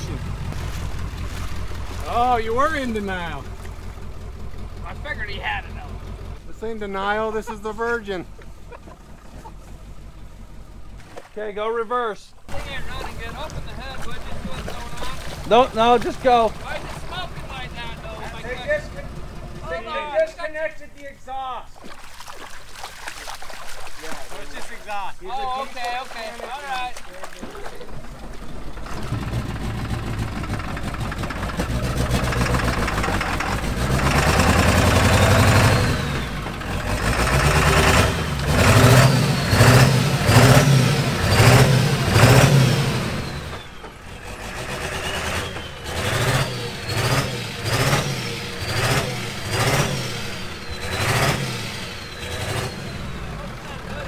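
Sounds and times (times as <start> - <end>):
diesel engine revving hard: 0.0 - 10.9, 12.5 - 20.1, 28.5 - 54.0.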